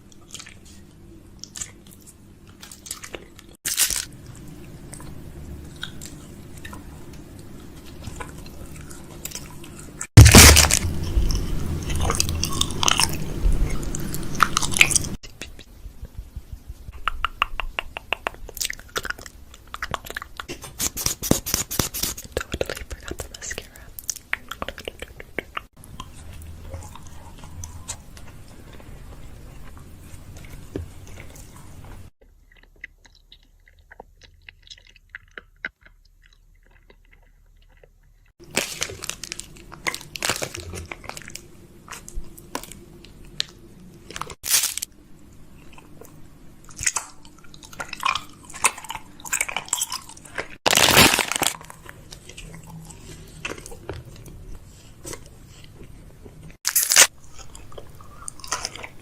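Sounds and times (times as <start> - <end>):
close-up crunching and crackling: 0.0 - 15.7, 18.0 - 59.0.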